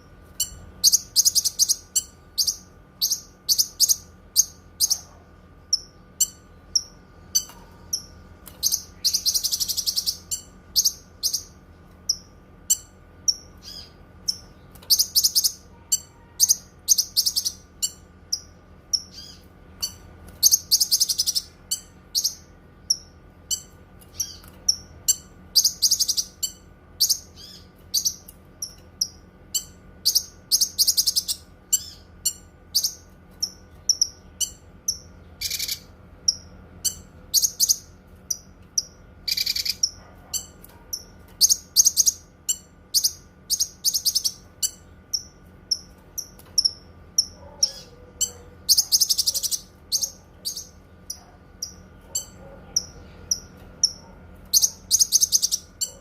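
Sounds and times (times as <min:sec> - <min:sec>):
faint steady hum: 0:00.0 - 0:56.0
songbird chirping and trilling: 0:00.3 - 0:56.0.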